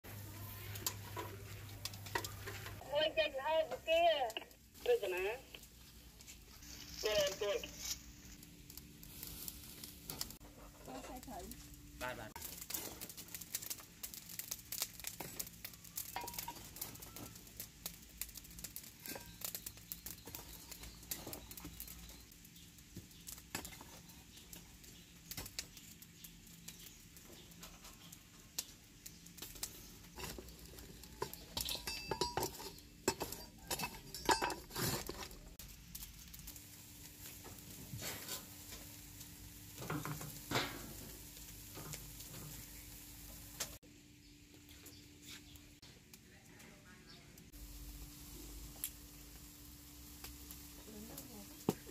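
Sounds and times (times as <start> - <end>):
metal clinking on clay stoves: 0.5 - 2.8, 3.6 - 43.8.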